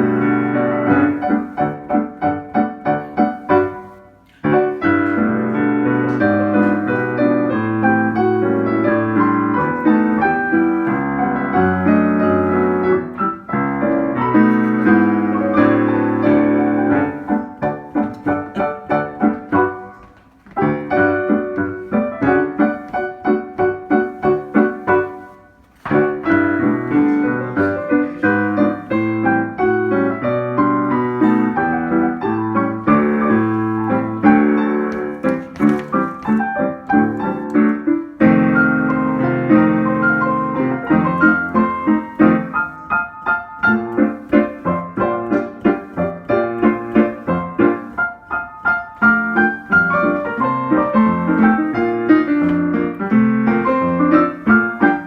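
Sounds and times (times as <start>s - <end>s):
lively piano tune: 0.0s - 55.0s.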